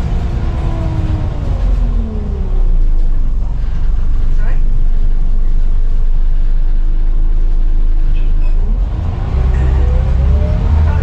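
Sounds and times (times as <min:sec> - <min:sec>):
bus diesel engine rumbling: 0:00.0 - 0:11.0
rising engine whine: 0:00.0 - 0:11.0.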